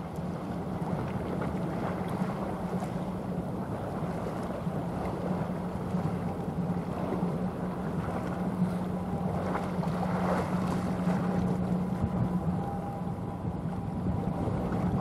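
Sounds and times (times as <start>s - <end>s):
ship diesel engine drone: 0.0s - 15.0s
wind noise on microphone: 0.0s - 15.0s.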